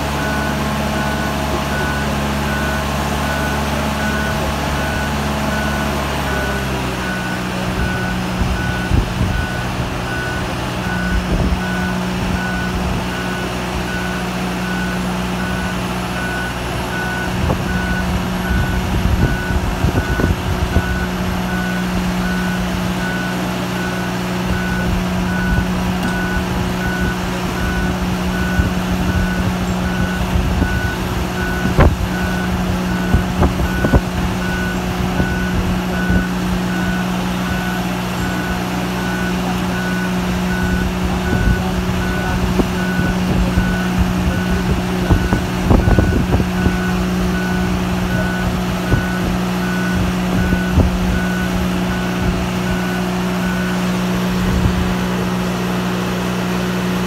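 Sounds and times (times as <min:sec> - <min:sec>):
warning alarm beeping: 0:00.0 - 0:56.7
engine droning: 0:00.0 - 0:57.0.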